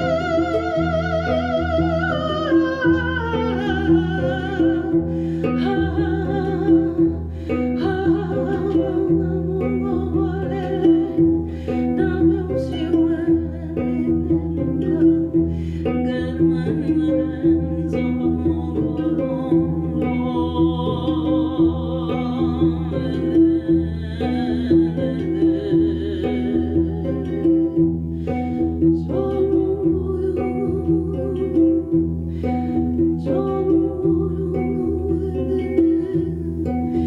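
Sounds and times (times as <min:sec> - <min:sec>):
person singing with vibrato: 0:00.0 - 0:37.0
plucked harp-lute: 0:00.0 - 0:37.0.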